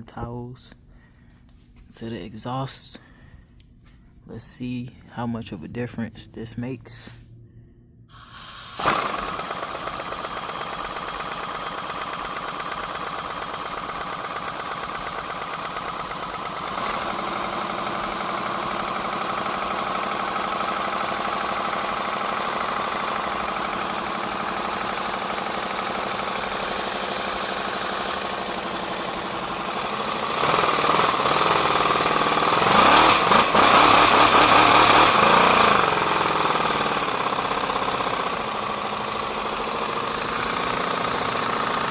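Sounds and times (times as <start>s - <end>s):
compressed-air engine running: 8.1s - 41.9s.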